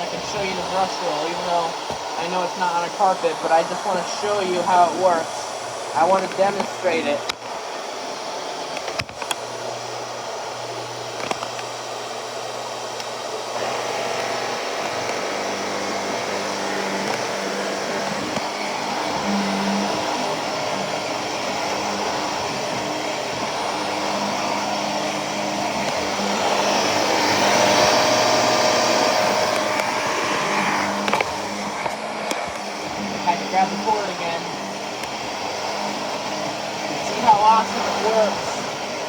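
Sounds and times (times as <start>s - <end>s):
vacuum cleaner hissing: 0.0s - 39.0s.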